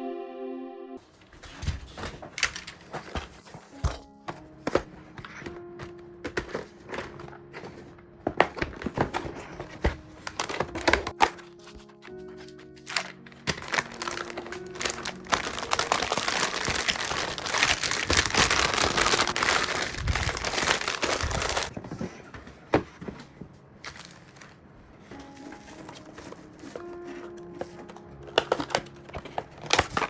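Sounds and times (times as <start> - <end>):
packaging crinkling and rustling: 1.0 - 30.0.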